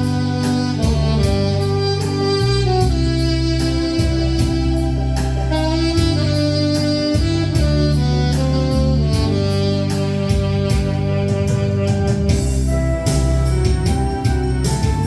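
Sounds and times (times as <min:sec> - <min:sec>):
backing track with steady beat: 0:00.0 - 0:15.0
saxophone melody: 0:00.0 - 0:15.0.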